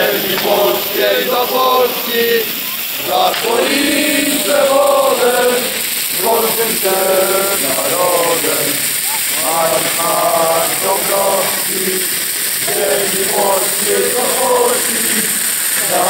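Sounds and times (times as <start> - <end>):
crowd chanting: 0.0 - 16.0
steady high hiss: 0.0 - 16.0.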